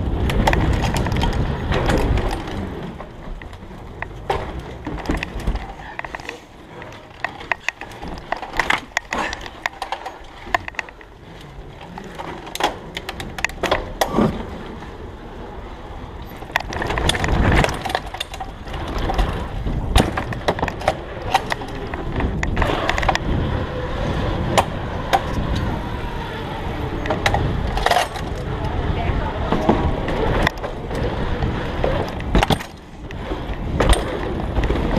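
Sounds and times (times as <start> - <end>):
bike clacking and rattling: 0.0 - 34.9
tyre rumble: 0.0 - 34.9.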